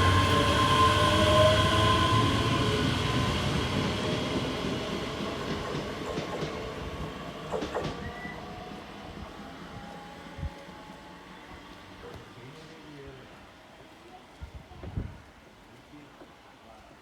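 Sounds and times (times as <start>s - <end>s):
train passing: 0.0s - 14.3s.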